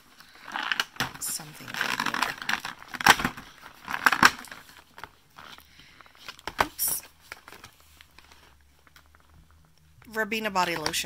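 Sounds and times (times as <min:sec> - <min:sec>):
cardboard rustling: 0:00.0 - 0:09.4.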